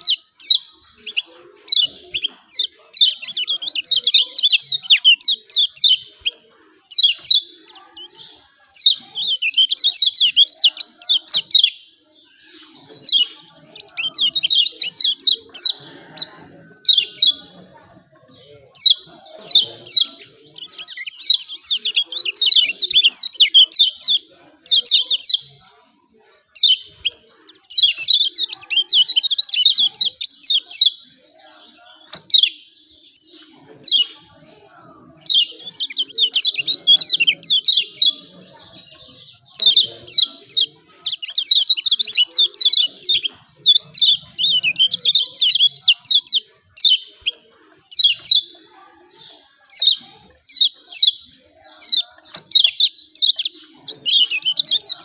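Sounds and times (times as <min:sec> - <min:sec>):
bird chirping sharp high calls: 0:00.0 - 0:25.6, 0:26.4 - 0:31.1, 0:32.1 - 0:34.3, 0:35.0 - 0:55.0.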